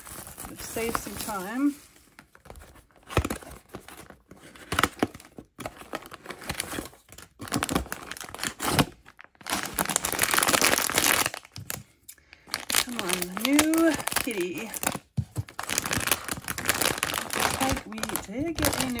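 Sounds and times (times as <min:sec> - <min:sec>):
plastic wrap tearing: 0:00.0 - 0:01.8, 0:04.6 - 0:19.0
foil bag crinkling: 0:00.0 - 0:19.0.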